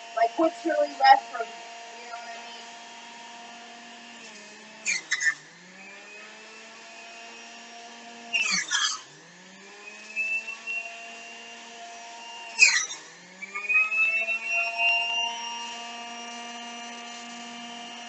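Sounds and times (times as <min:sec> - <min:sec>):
electric juicer motor hum: 0:00.0 - 0:18.0
juicer grinding produce: 0:00.0 - 0:18.0.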